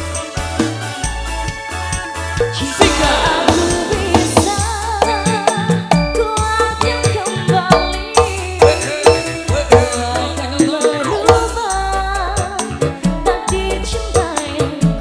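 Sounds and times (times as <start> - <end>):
fast hand-drum percussion: 0.0 - 15.0
pulsing bass: 0.0 - 15.0
wavering melody: 2.1 - 14.3.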